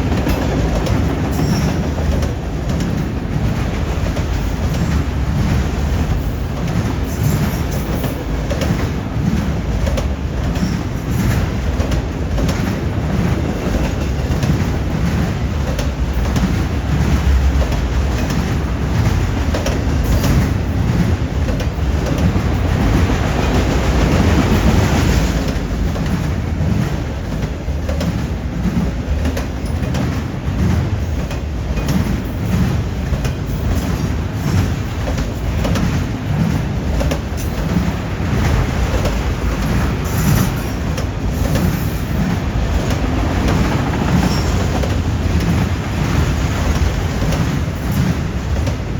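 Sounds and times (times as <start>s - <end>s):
train wheels clacking over rail joints: 0.0s - 48.9s.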